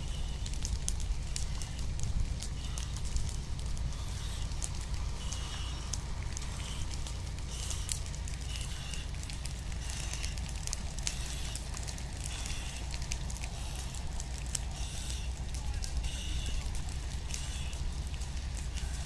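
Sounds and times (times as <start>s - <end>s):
fire crackling with sharp pops: 0.0s - 19.0s
steady low rumble: 0.0s - 19.0s.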